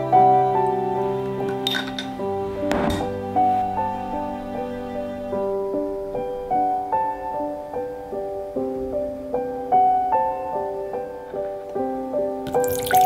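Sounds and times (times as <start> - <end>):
soft piano broken chords: 0.0 - 12.9.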